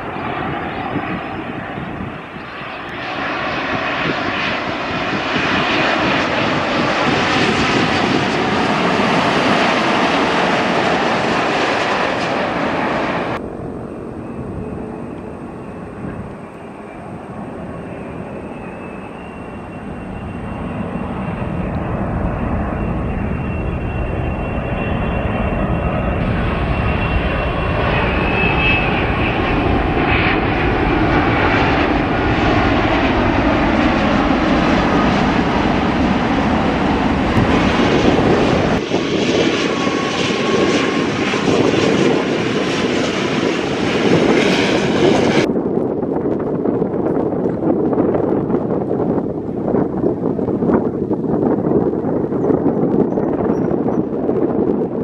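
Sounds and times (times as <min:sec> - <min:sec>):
approaching jet engines: 0:00.0 - 0:55.0
jet engine rush: 0:00.0 - 0:55.0.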